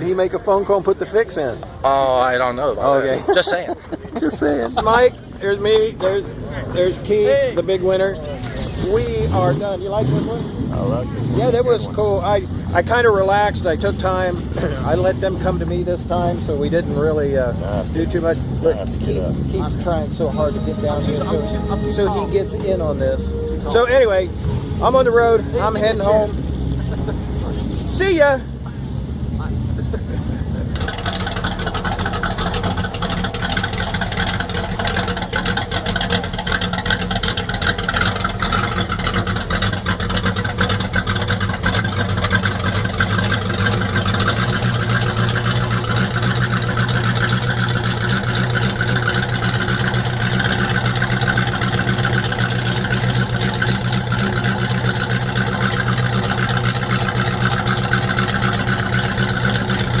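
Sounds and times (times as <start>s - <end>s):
vehicle engine driving: 0.0s - 60.0s.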